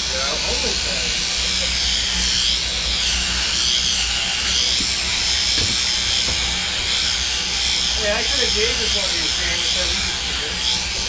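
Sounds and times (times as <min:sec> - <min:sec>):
sheep-shearing handpieces buzzing: 0:00.0 - 0:11.0.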